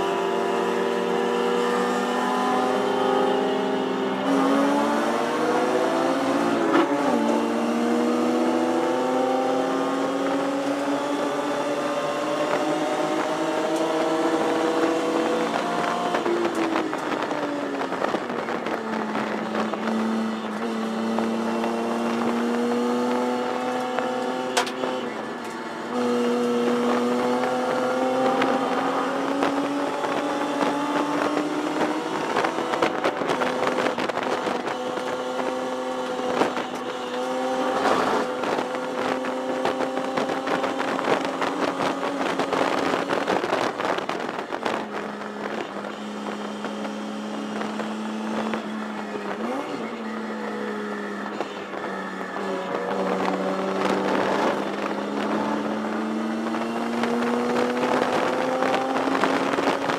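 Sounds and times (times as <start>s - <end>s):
race car engine from cockpit: 0.0s - 59.9s.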